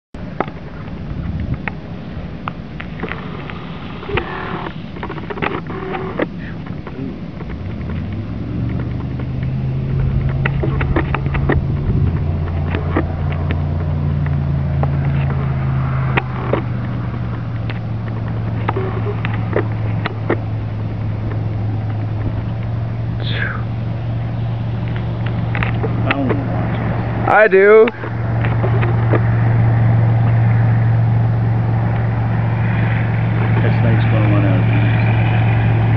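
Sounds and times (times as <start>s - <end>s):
vehicle engine idling: 0.2s - 35.9s.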